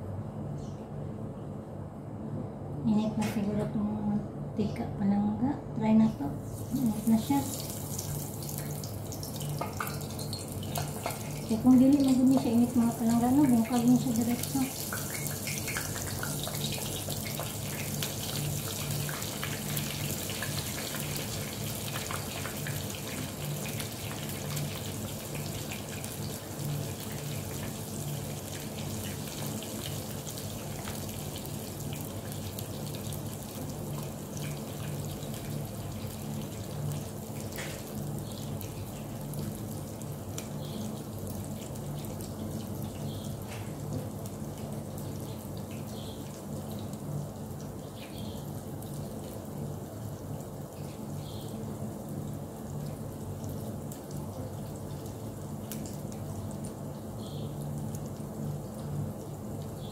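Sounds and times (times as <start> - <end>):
food deep-frying in oil: 6.2 - 59.9.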